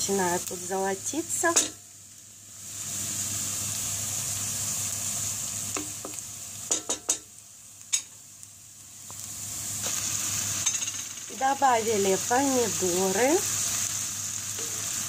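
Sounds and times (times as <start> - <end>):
onion sizzling in frying pan: 0.0 - 15.0.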